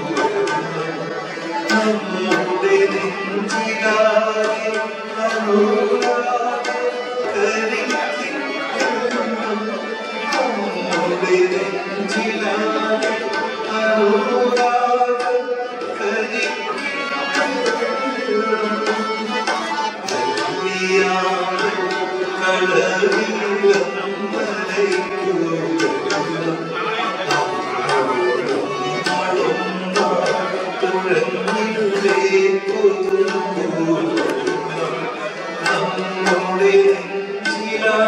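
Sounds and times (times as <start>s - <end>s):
drum beating: 0.0s - 38.0s
man singing into a microphone: 0.0s - 38.0s.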